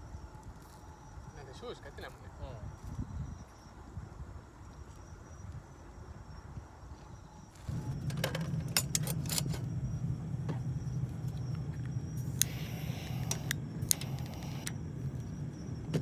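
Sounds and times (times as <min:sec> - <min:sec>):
faint insect chirping: 0:00.0 - 0:16.0.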